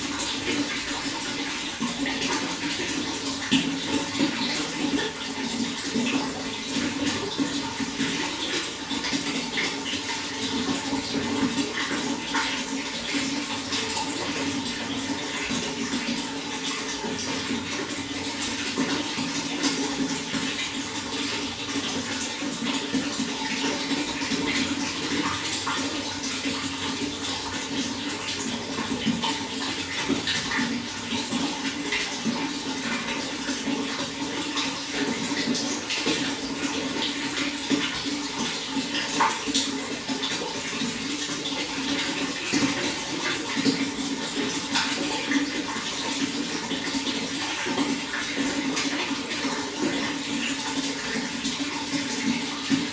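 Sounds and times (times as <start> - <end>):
running water rushing: 0.0 - 52.9
water splashes and drips: 0.0 - 52.9.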